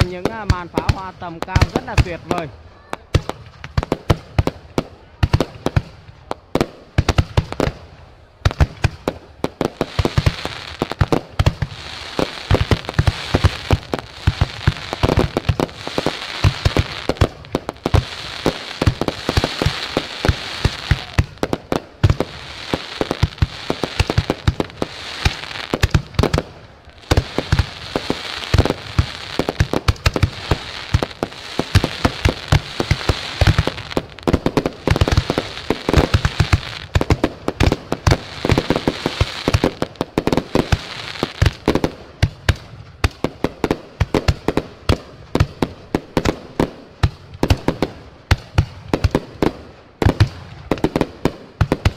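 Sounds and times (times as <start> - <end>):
fireworks bangs: 0.0 - 51.9
fireworks crackling: 0.0 - 51.9.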